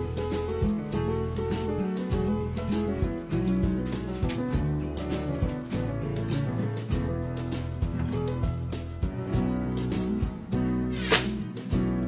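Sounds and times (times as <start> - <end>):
melodic music with steady beat: 0.0 - 12.0.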